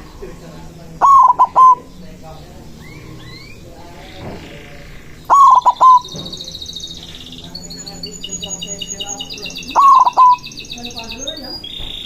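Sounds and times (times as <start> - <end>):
dove cooing: 0.0 - 11.8
small birds chirping: 0.0 - 12.0.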